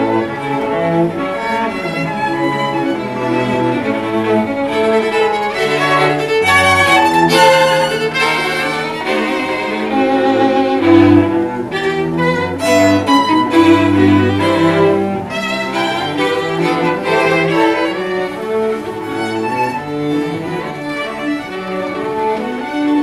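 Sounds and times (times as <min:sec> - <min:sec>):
violin and cello slow melody: 0:00.0 - 0:23.0.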